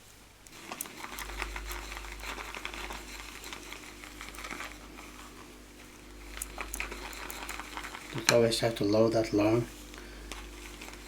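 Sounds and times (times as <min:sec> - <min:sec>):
shaving brush whipping lather: 0:00.5 - 0:11.0.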